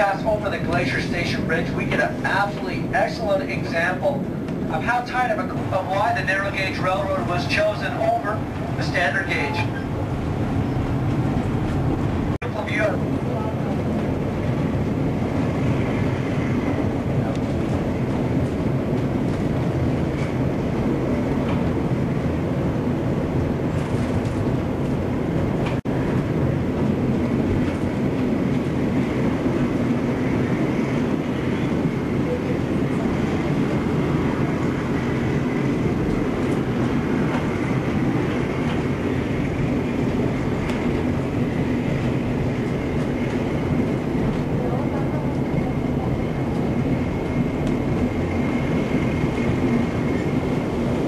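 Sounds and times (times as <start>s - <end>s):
train rumbling and rattling: 0.0s - 51.0s.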